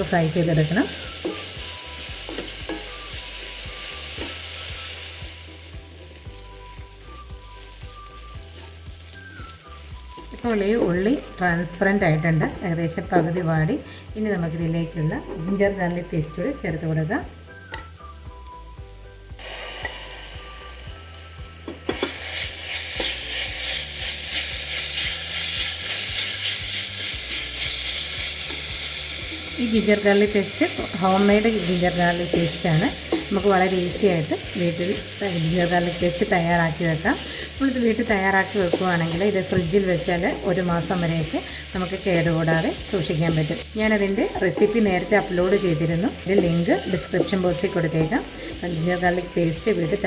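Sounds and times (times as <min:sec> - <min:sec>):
onions sizzling in hot oil: 0:00.0 - 0:50.0.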